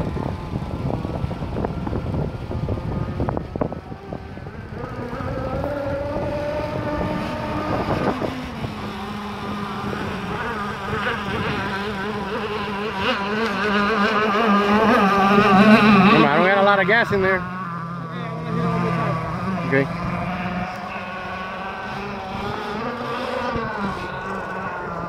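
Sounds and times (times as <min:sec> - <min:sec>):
wind rumble on microphone: 0:00.0 - 0:20.7
model boat engine buzzing: 0:00.0 - 0:25.0.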